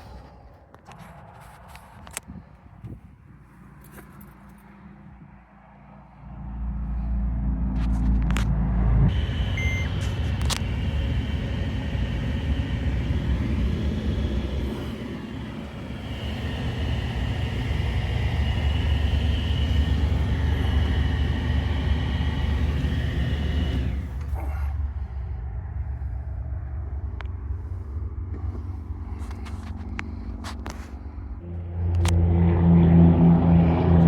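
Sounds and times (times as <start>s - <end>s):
high engine whine: 5.2s - 34.0s
diesel engine heavy rumble: 6.0s - 34.0s.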